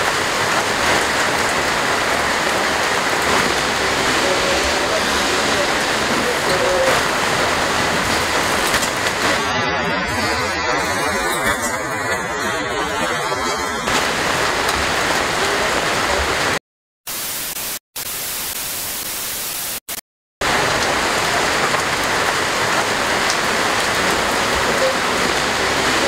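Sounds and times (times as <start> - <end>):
rain hiss: 0.0 - 9.5, 12.5 - 26.0
static glitch noise: 0.0 - 26.0.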